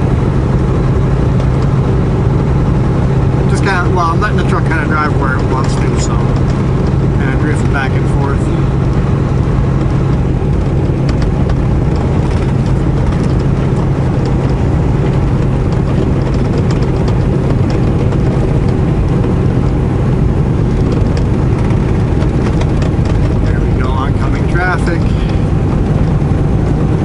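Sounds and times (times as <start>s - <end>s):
truck diesel engine droning: 0.0s - 27.0s
tyre and road noise: 0.0s - 27.0s.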